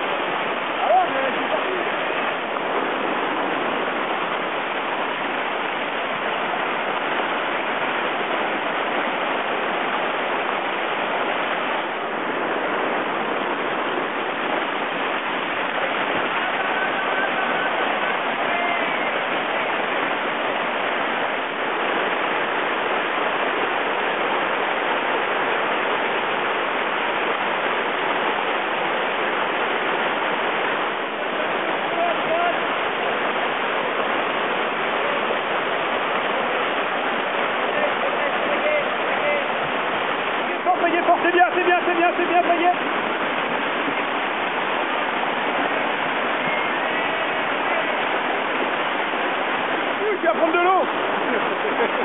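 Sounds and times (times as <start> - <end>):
river rapids rushing over rocks: 0.0 - 52.0.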